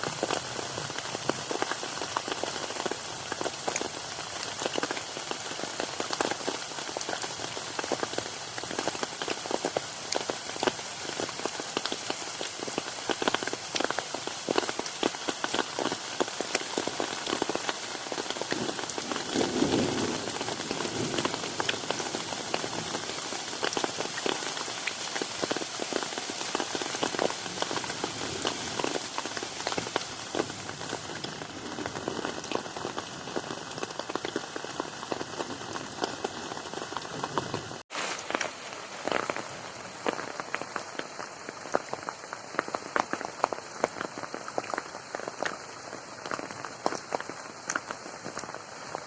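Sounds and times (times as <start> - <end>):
rain hissing: 0.0 - 49.0
raindrops splatting on water: 0.0 - 49.0.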